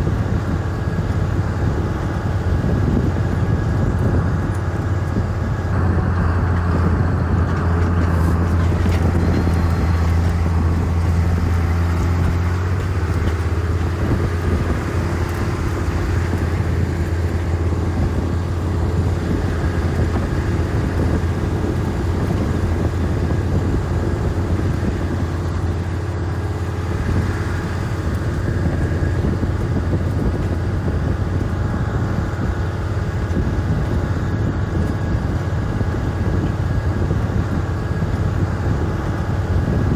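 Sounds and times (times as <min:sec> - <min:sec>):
large vehicle engine running: 0:00.0 - 0:39.9.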